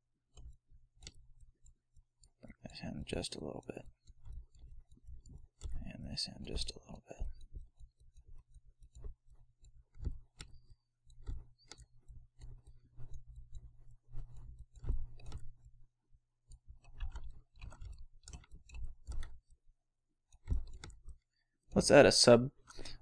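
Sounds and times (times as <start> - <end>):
computer mouse clicks: 0.3 - 15.8, 16.5 - 19.6, 20.3 - 21.3, 21.9 - 23.0.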